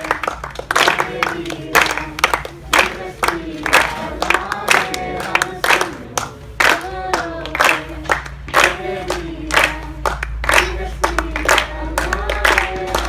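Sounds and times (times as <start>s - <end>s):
group singing a hymn: 0.0s - 13.0s
hands clapping in a steady beat: 0.0s - 13.0s.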